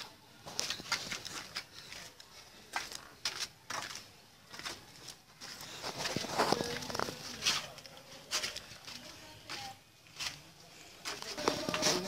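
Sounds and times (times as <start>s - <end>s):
footsteps on gritty concrete: 0.0s - 12.0s.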